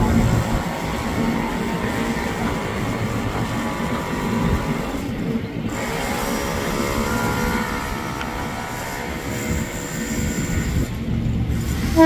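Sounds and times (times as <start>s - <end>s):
train machinery low rumble: 0.0s - 12.0s.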